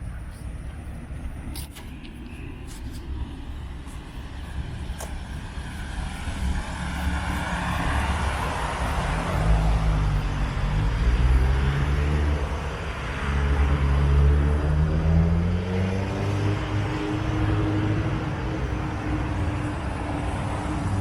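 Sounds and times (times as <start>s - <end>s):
passing vehicle engine rumble: 0.0s - 21.0s.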